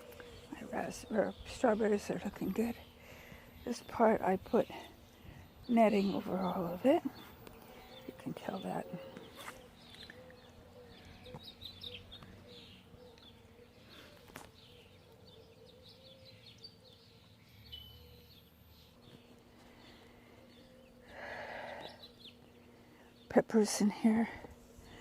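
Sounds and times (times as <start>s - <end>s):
faint steady hum: 0.0s - 25.0s
songbirds chirping and singing: 0.0s - 25.0s.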